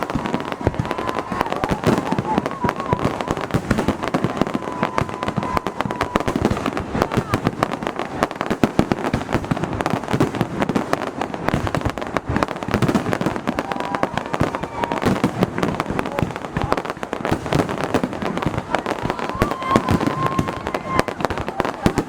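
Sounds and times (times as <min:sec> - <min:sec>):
crackling firework bursts: 0:00.0 - 0:22.0
fireworks launching and bursting: 0:00.0 - 0:22.0.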